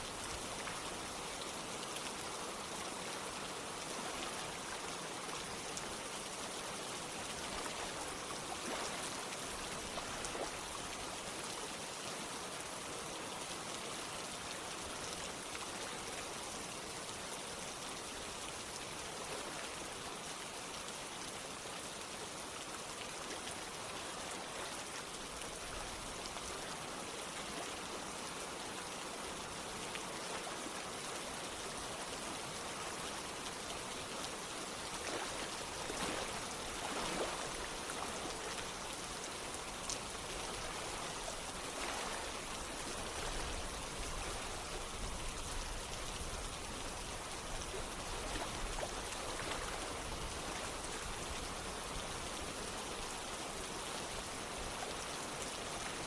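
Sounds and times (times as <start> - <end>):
running water: 0.0 - 56.0
steady rain: 0.0 - 56.0.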